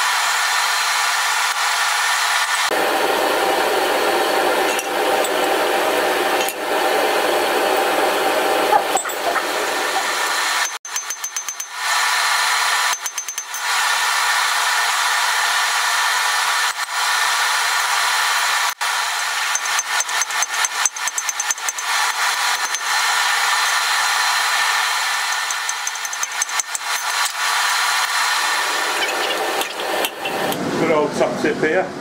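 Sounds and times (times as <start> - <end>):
blower motor whirring: 0.0 - 10.8, 11.7 - 31.3.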